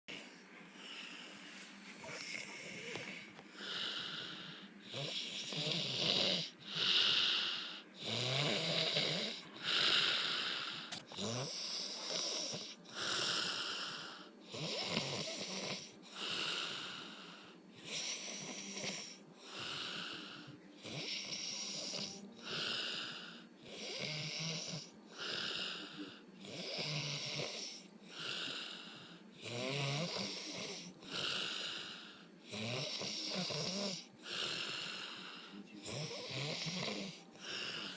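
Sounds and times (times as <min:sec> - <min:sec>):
pig snoring: 0:02.0 - 0:17.0, 0:17.8 - 0:20.2, 0:20.8 - 0:37.9.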